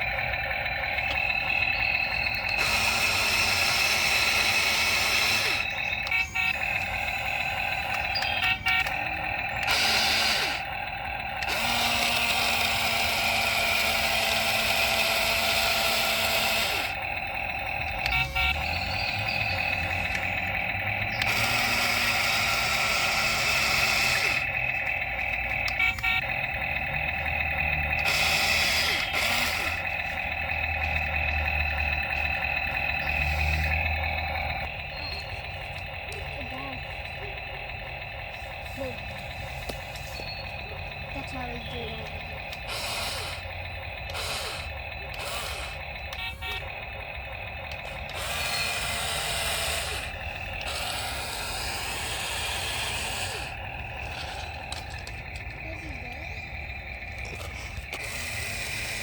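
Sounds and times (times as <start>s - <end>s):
toy excavator motor whine: 0.0s - 59.0s.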